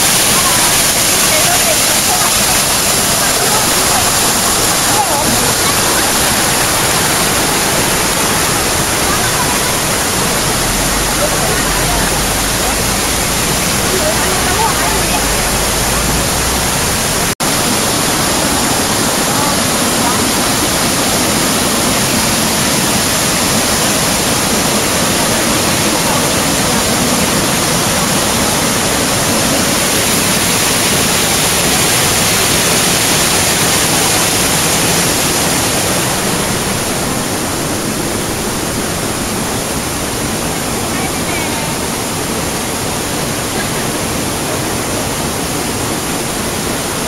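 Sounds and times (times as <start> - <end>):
stream water rushing over boulders: 0.0 - 47.0.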